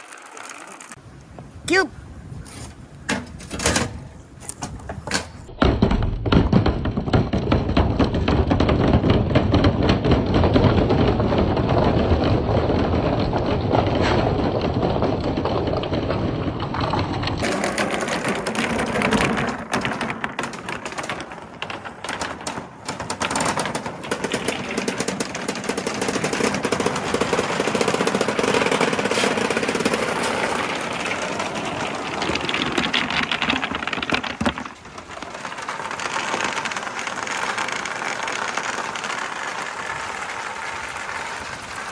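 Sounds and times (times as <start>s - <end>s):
balls rattling down wooden track: 0.0s - 1.0s, 2.4s - 41.9s.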